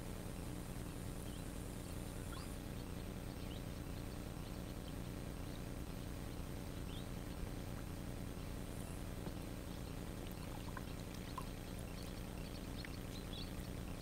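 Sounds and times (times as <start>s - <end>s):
low background rumble: 0.0s - 14.0s
faint bird chirps: 0.1s - 14.0s.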